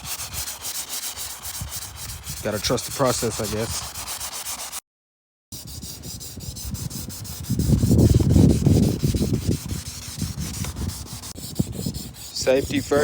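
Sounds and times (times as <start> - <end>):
sanding strokes on surface: 0.0 - 4.8, 5.6 - 13.0.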